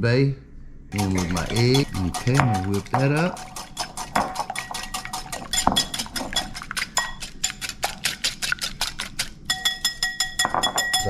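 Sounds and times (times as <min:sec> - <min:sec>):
whisk clinking against a bowl: 0:00.9 - 0:11.0.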